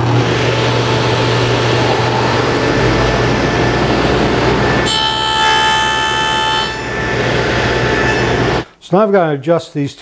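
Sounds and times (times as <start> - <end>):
high whine of saw cutting: 0.0 - 8.7
table saw running: 0.0 - 8.7.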